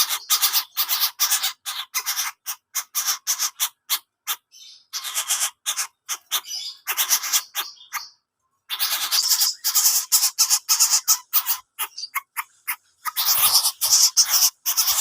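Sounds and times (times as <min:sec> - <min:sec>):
bird giving harsh rasping calls: 0:00.0 - 0:15.0.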